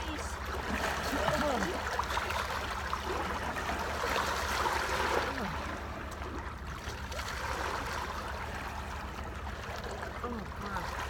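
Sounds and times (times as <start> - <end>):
water splashing at shore: 0.0 - 11.0.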